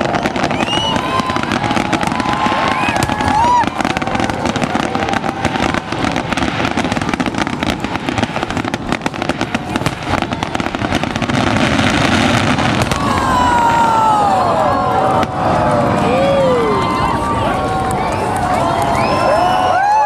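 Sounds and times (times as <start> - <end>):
fireworks banging and crackling: 0.0 - 20.0.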